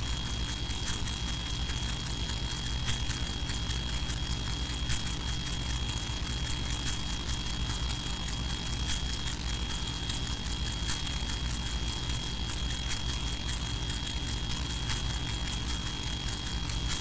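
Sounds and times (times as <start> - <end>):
hall room noise hum and hiss: 0.0 - 17.0.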